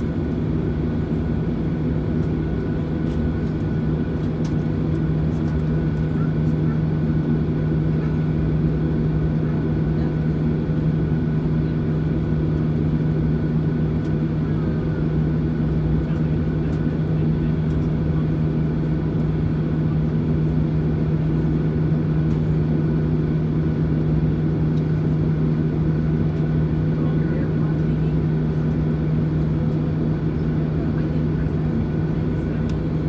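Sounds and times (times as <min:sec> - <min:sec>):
airplane cabin engine drone: 0:00.0 - 0:33.0.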